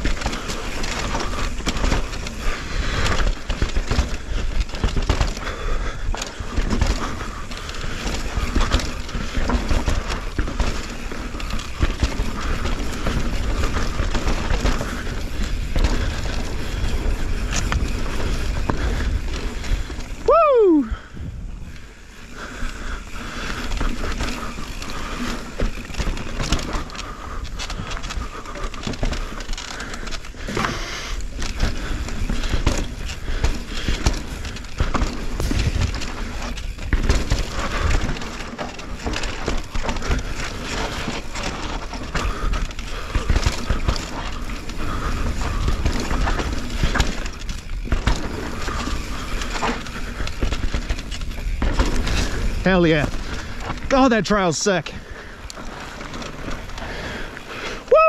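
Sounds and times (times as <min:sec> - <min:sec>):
bike knocks and rattles: 0:00.0 - 0:57.9
bike tyres on dirt trail: 0:00.0 - 0:58.0.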